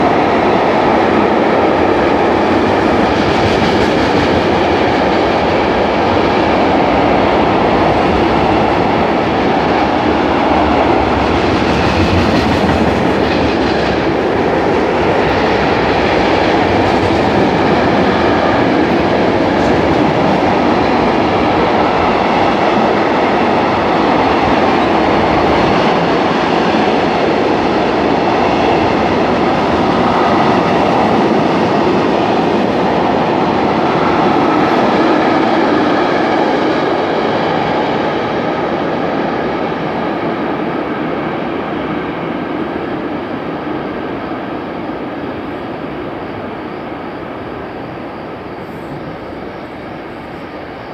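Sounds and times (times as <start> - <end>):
train rushing past: 0.0 - 50.9.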